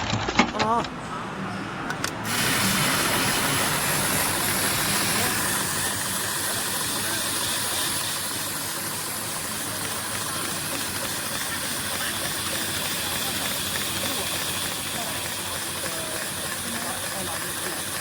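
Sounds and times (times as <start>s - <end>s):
steady hiss: 2.3s - 18.0s.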